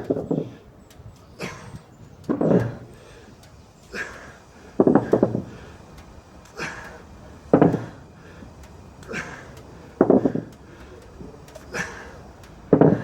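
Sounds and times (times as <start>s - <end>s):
heavy breathing: 0.0s - 13.0s.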